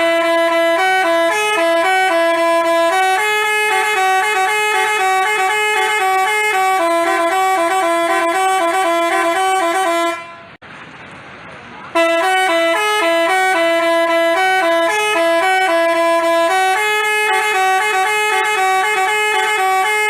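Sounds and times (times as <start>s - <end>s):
multi-tone bus horn melody: 0.0s - 10.6s, 11.9s - 20.0s.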